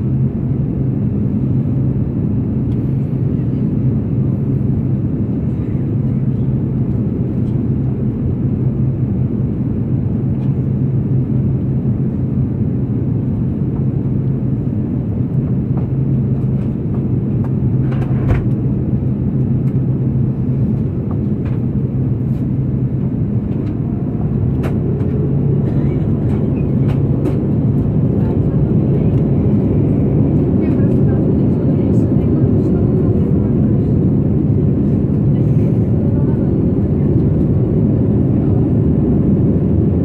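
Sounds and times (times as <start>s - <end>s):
airplane cabin drone: 0.0s - 40.0s.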